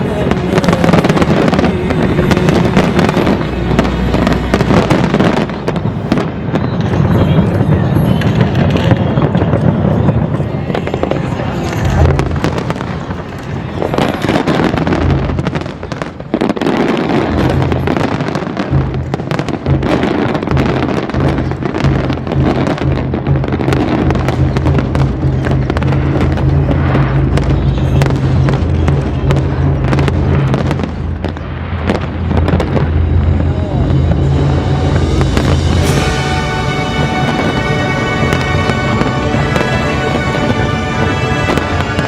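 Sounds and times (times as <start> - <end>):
music playing: 0.0 - 8.8, 10.4 - 42.0
fireworks bangs and crackles: 0.0 - 42.0
low rumble of booms: 0.0 - 42.0.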